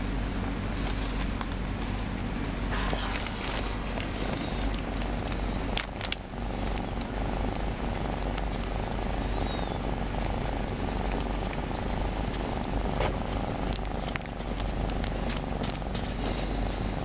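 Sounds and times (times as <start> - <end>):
plastic and boxes rustling: 0.7 - 2.0, 2.7 - 17.0
cat purring: 2.7 - 17.0.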